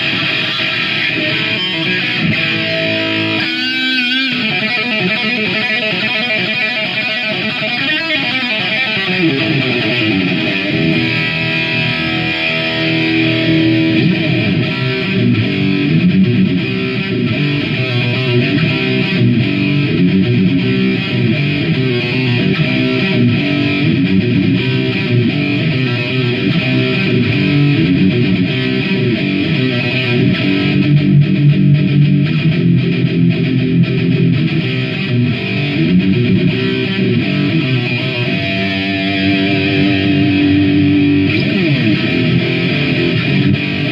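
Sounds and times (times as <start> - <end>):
distorted electric guitar riff: 0.0 - 43.9.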